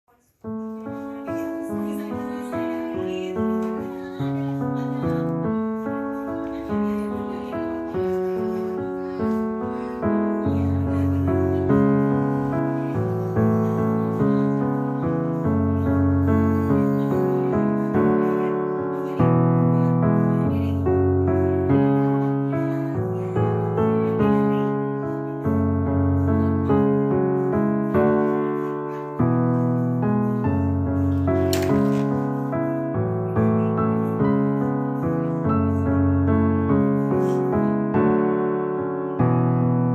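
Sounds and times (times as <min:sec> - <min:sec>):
slow piano melody: 0:00.2 - 0:39.9.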